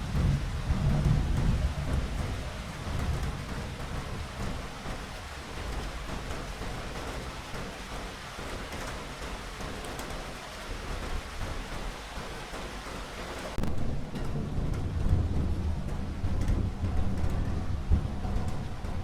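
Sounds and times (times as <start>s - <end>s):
low rumble of thunder: 0.0s - 12.6s, 13.5s - 19.0s
steady rain falling: 0.0s - 19.0s.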